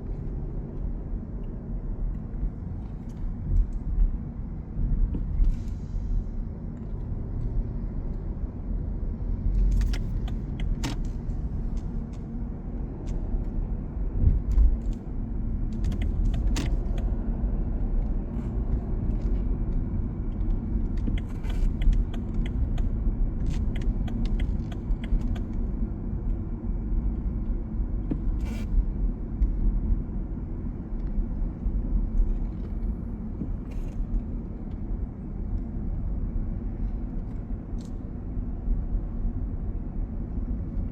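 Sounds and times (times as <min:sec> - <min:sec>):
road traffic rumble on wet street: 0:00.1 - 0:40.9.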